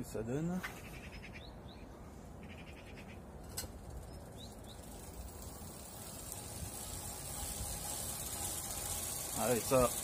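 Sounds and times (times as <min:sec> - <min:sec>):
low background noise: 0:00.0 - 0:10.0
small birds chirping: 0:00.0 - 0:10.0.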